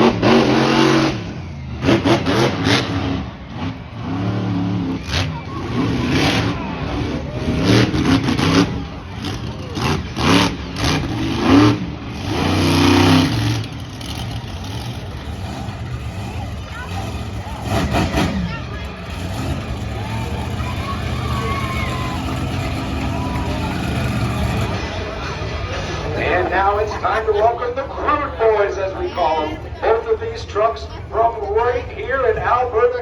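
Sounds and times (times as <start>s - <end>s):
monster truck engines revving: 0.0s - 33.0s.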